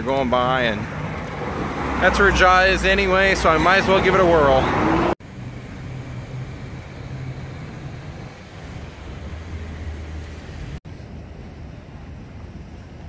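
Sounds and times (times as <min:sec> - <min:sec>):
passing cars: 0:00.0 - 0:13.0
low engine hum: 0:00.1 - 0:13.0.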